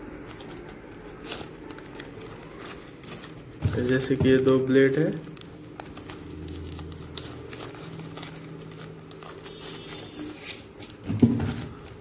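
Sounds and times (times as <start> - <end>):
paper wrapper crinkling and tearing: 0.0 - 12.0.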